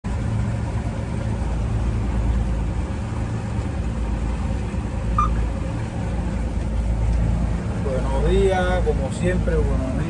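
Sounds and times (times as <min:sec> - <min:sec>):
boat engine idling: 0:00.1 - 0:10.0.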